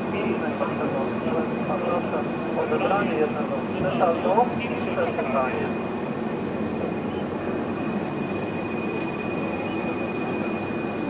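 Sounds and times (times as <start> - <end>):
electric train equipment whine: 0.0 - 11.0.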